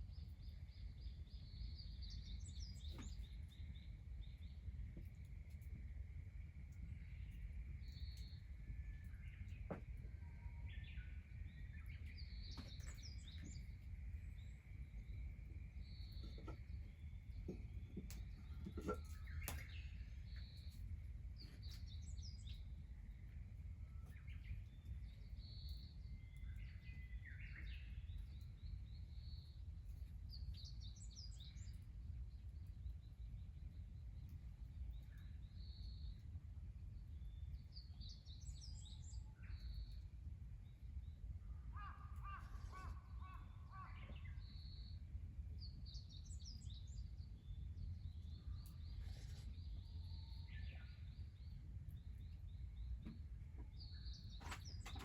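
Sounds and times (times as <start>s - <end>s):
small birds chirping: 0.0s - 36.4s, 37.0s - 55.0s.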